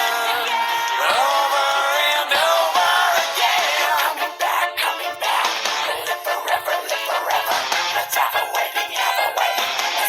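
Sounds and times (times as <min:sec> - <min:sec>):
pop-rock song with vocals: 0:00.0 - 0:10.0.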